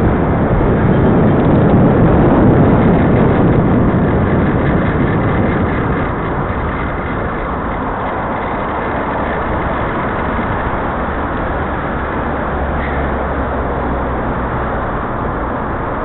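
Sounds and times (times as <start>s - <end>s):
car engines running: 0.0s - 16.0s
wind rushing over microphone: 0.0s - 16.0s.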